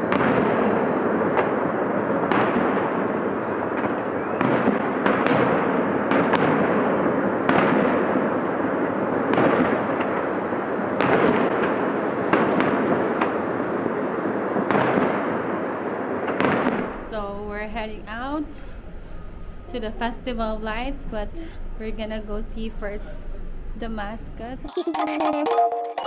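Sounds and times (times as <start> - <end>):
fireworks bangs and crackles: 0.0 - 21.6.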